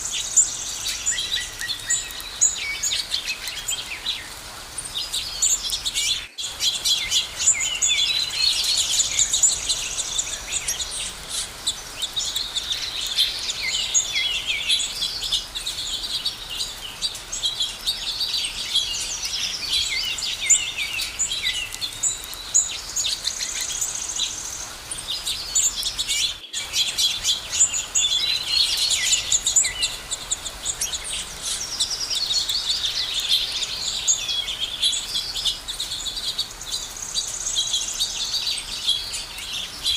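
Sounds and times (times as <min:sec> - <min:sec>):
songbirds chirping in chorus: 0:00.0 - 0:39.9.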